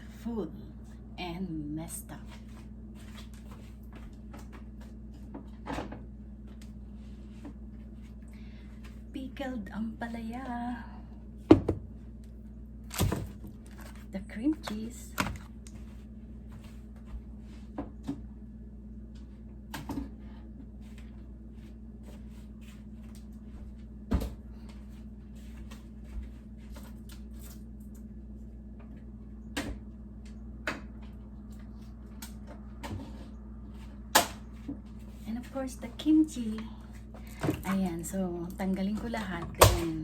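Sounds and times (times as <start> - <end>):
refrigerator low hum: 0.0 - 40.0.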